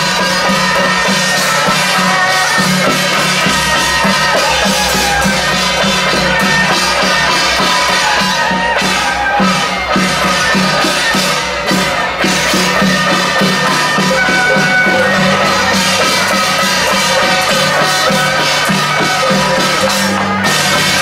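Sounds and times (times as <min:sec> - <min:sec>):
drums and percussion beat: 0:00.0 - 0:21.0.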